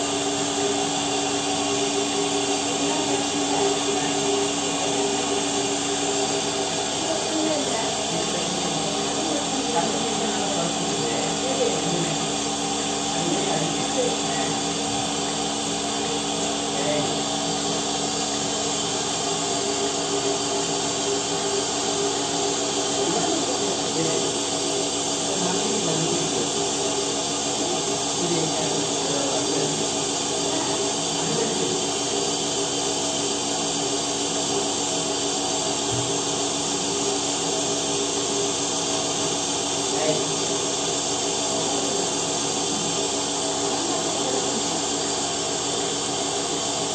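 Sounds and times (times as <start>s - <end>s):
milking machine vacuum pump running: 0.0s - 46.9s.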